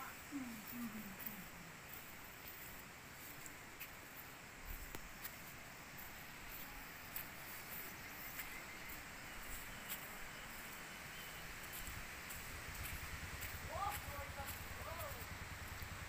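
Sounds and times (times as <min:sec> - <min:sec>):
high-pitched insect hiss: 0:00.0 - 0:16.0.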